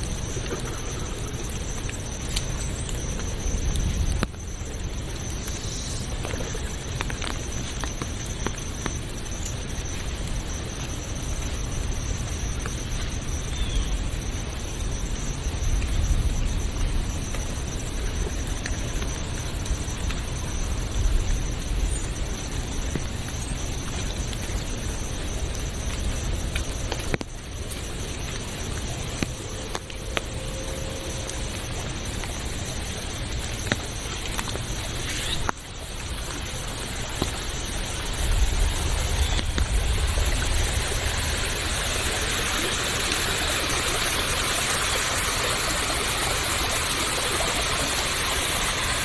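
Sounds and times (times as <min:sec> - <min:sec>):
high-pitched insect drone: 0:00.0 - 0:49.0.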